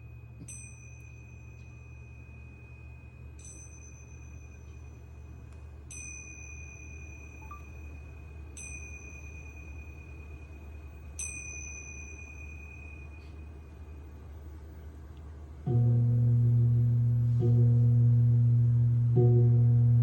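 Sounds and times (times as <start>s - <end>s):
quiet low hum: 0.0s - 20.0s.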